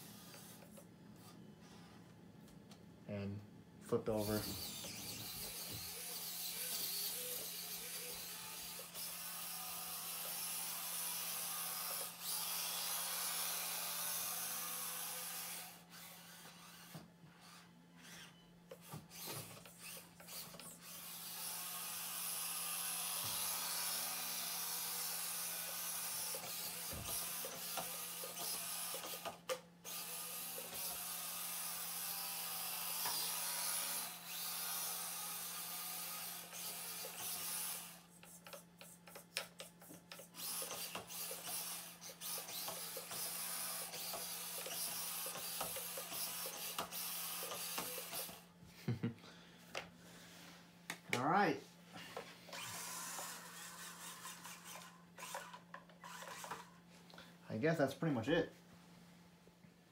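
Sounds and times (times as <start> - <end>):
small electric motor whirring: 0.0 - 0.8, 4.0 - 48.5, 52.4 - 56.8.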